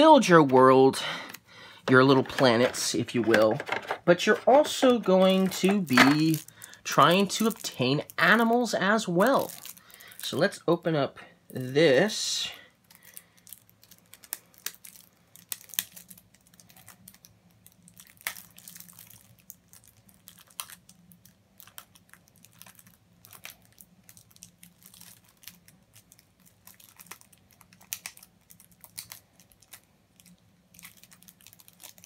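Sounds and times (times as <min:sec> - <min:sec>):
plastic wrapping crinkling: 0:00.0 - 0:10.6, 0:12.7 - 0:32.0.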